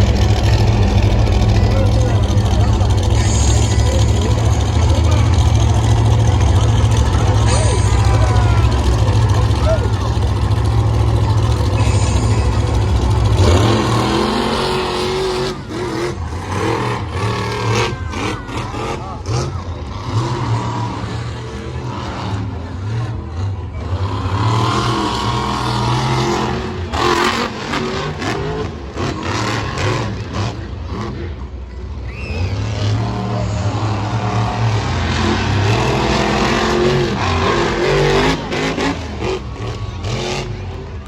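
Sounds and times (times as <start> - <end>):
truck engine revving hard: 0.0 - 41.0.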